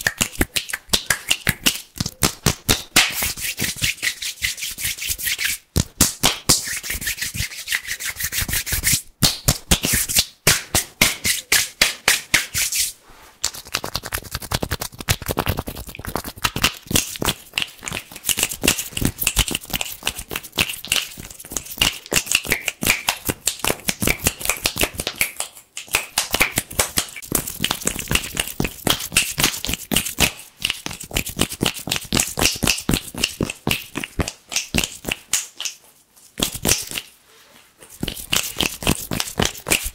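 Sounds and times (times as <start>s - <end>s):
hands rubbing and crackling: 0.0s - 39.9s.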